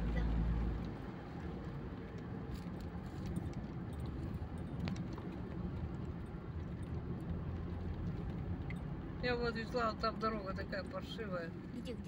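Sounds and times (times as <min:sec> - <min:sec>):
engine and tyres rumbling: 0:00.0 - 0:12.0.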